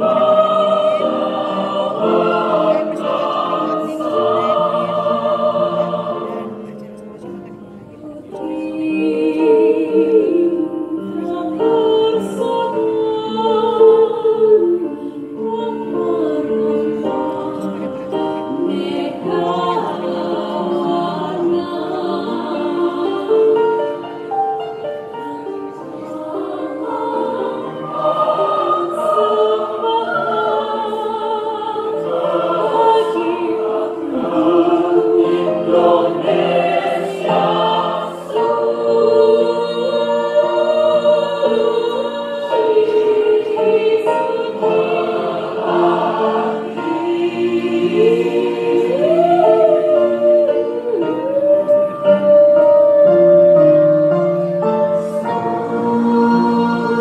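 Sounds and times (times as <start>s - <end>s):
mixed choir singing in harmony: 0.0s - 57.0s.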